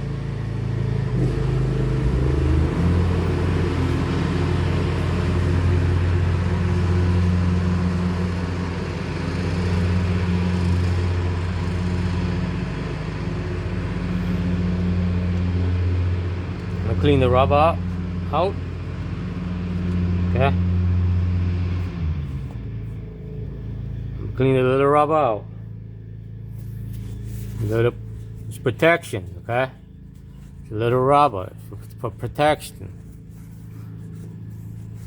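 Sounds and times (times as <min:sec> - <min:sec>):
engine running with low hum: 0:00.0 - 0:35.0.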